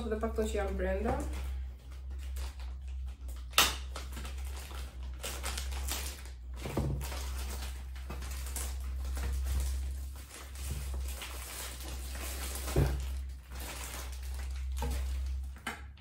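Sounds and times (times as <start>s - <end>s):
packaging rustling and crinkling: 0.4s - 15.8s.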